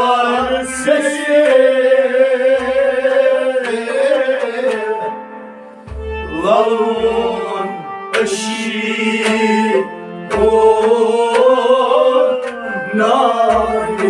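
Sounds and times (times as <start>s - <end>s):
bowed strings: 0.0s - 14.0s
harmonium drone: 0.0s - 14.0s.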